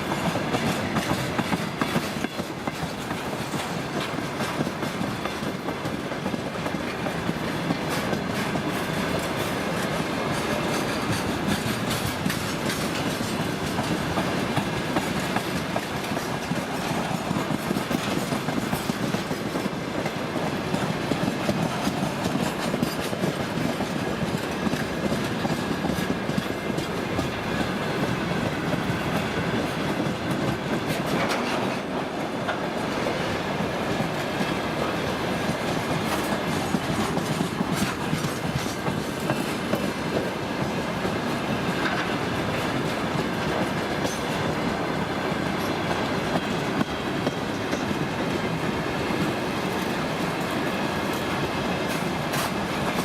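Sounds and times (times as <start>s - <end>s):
freight train rolling past: 0.0s - 53.0s
wheels clacking over rail joints: 0.0s - 53.0s.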